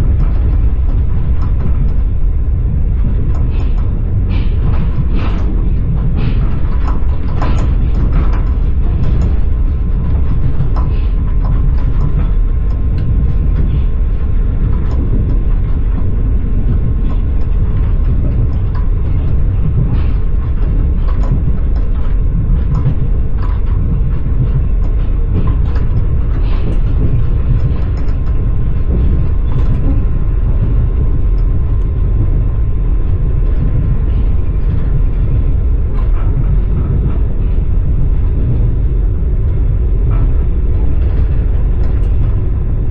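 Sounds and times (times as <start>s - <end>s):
train wheels rumbling: 0.0s - 42.9s
wheels clicking on rails: 0.0s - 42.9s.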